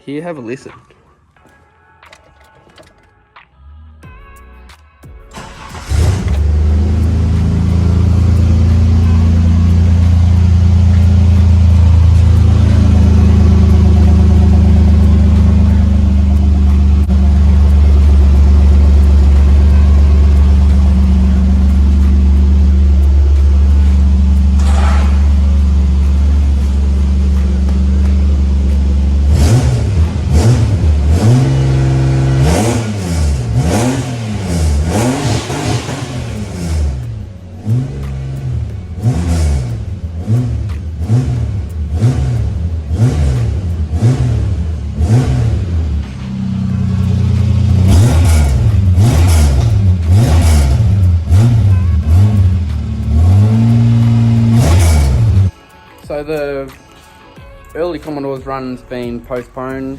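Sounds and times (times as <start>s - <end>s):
car engine idling and revving: 5.3s - 55.6s.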